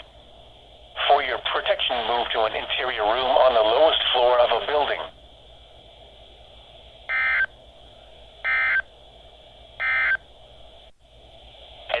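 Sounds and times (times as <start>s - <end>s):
radio receiver hiss: 0.0s - 12.0s.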